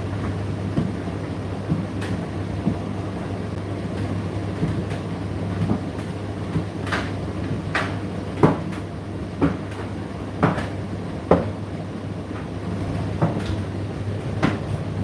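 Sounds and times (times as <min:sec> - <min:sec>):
tumble dryer motor hum: 0:00.0 - 0:15.0.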